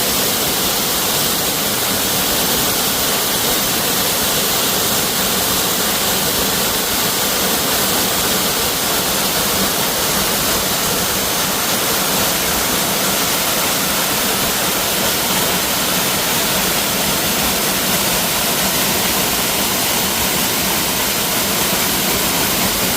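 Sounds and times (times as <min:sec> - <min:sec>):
waterfall crashing: 0:00.0 - 0:22.9.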